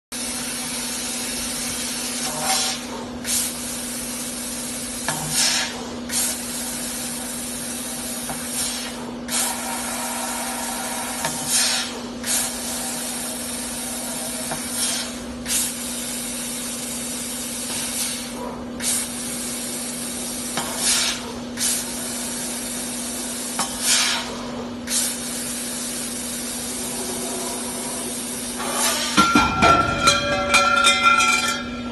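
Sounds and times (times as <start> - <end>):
laser cutter hiss: 0.2 - 29.4.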